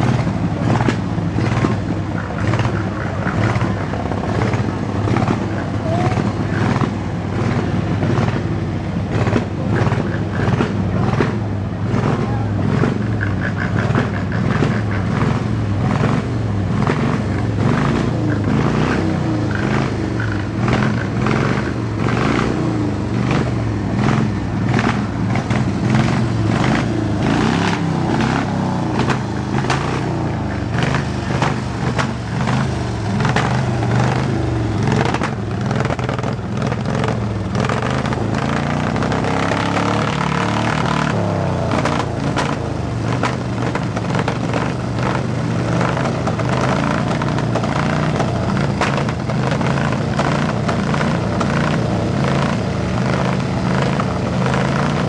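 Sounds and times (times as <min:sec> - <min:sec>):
tractor engines droning: 0:00.0 - 0:55.0.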